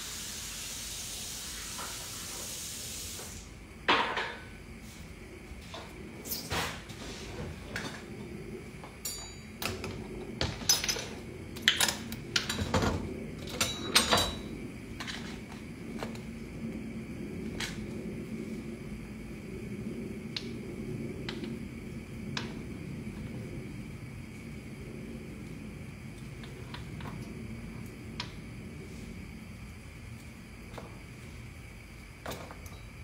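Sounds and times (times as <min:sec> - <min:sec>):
steady low hum: 0:03.4 - 0:33.0.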